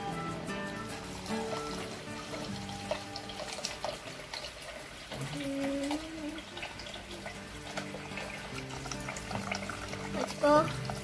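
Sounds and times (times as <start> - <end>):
background music: 0.0 - 11.0
water running into a pot: 0.0 - 11.0.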